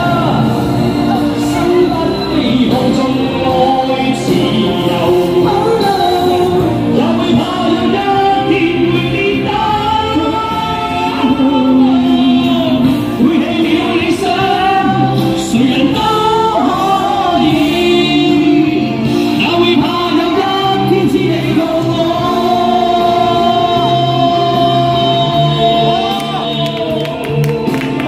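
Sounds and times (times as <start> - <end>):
person singing live: 0.0 - 28.0.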